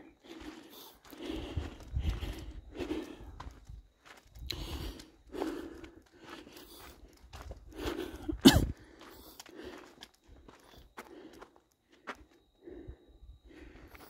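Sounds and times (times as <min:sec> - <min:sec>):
footsteps on rocky dirt trail: 0:00.0 - 0:12.9, 0:13.6 - 0:14.0
breathing: 0:00.0 - 0:14.0.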